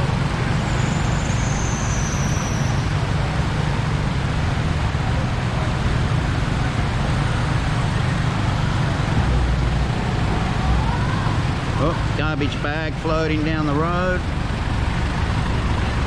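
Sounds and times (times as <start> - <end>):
road traffic on wet street: 0.0 - 16.0.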